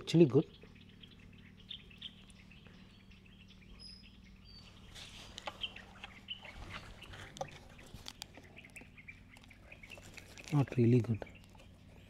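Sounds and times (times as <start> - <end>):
steady low hum: 0.0 - 12.0
high bird chirps: 0.4 - 12.0.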